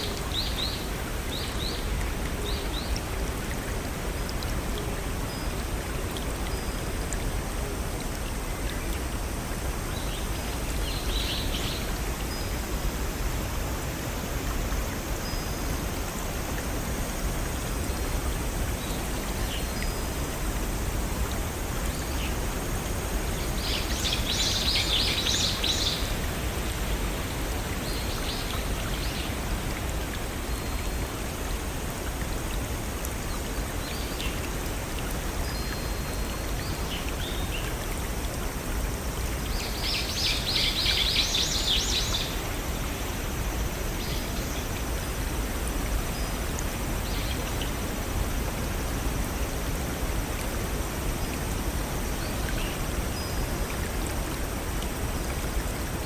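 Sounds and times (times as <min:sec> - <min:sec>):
stream and waterfalls running: 0:00.0 - 0:56.0.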